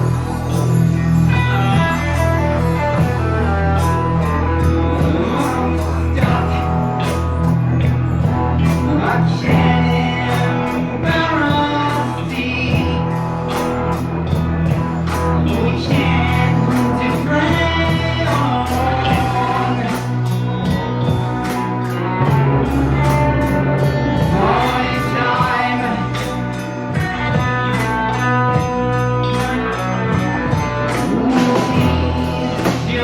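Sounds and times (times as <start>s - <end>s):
rock song with singing: 0.0s - 33.0s.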